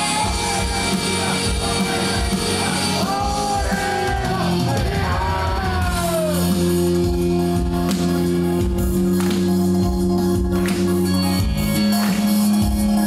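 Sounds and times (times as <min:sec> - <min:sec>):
pop backing track: 0:00.0 - 0:13.0.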